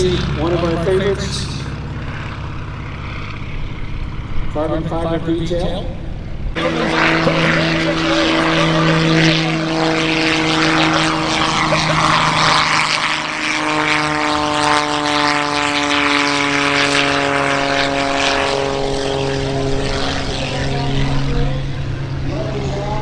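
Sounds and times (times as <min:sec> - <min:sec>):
propeller airplane droning overhead: 0:00.0 - 0:23.0
second aircraft passing: 0:00.0 - 0:23.0.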